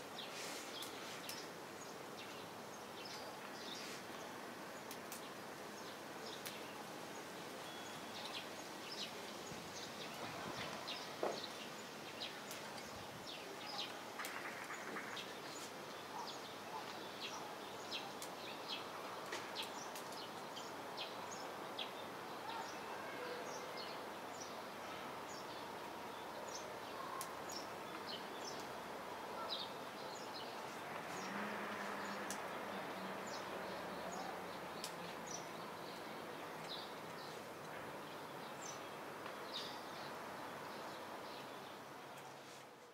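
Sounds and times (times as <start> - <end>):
background hiss: 0.0 - 42.9.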